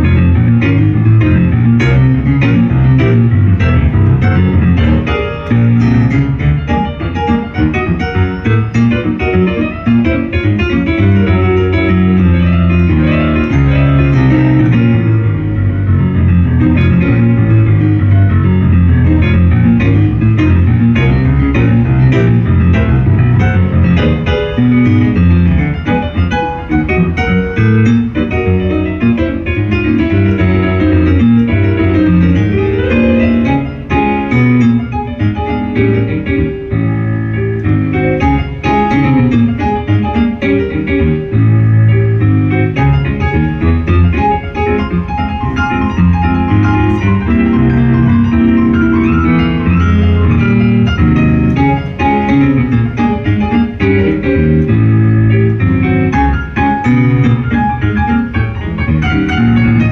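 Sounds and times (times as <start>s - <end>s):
ragtime piano: 0.0s - 59.9s.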